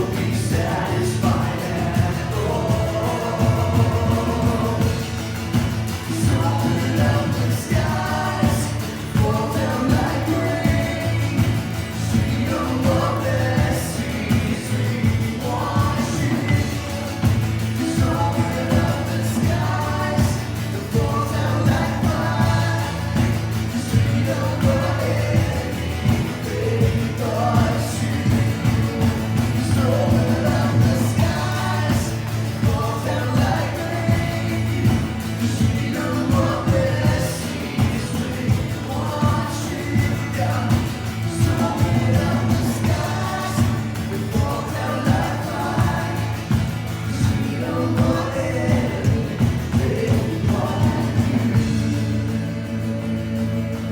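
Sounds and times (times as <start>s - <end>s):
voices singing: 0.0s - 53.9s
worship band playing: 0.0s - 53.9s.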